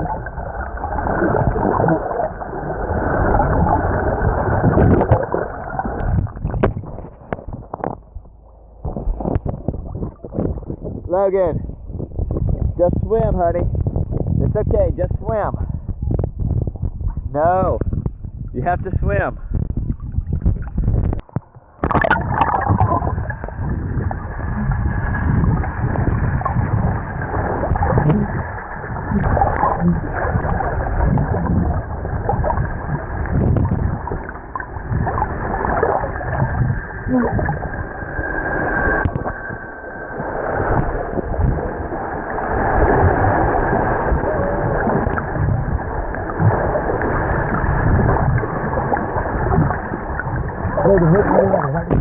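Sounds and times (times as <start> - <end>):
sea water sloshing and gurgling: 0.0 - 52.0.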